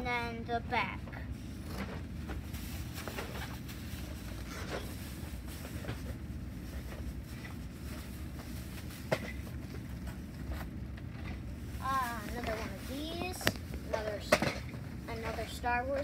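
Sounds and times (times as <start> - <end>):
steady low hum: 0.0 - 16.0
rustles and knocks of handling: 0.9 - 16.0
plastic bag rustling: 1.4 - 15.9.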